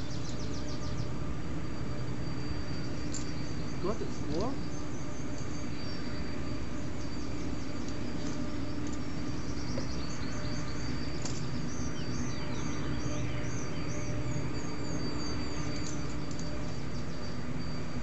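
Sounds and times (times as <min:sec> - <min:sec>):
small birds chirping: 0:00.0 - 0:18.0
steady background rush: 0:00.0 - 0:18.0.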